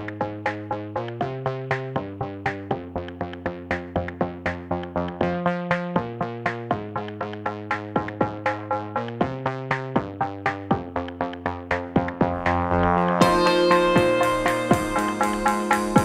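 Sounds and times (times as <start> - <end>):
drum machine beat: 0.0 - 16.0
synthesizer chords: 0.0 - 16.0.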